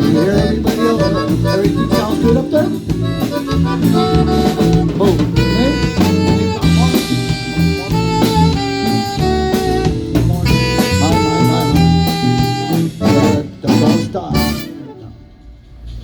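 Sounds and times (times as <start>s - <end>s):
drum hits: 0.0s - 14.8s
held melody notes: 0.0s - 15.7s
bass line: 0.0s - 16.0s.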